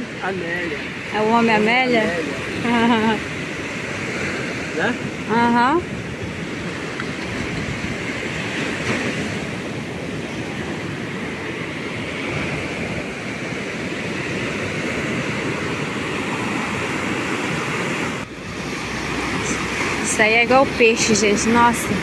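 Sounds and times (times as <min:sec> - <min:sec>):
sea surf washing onto beach: 0:00.0 - 0:22.0.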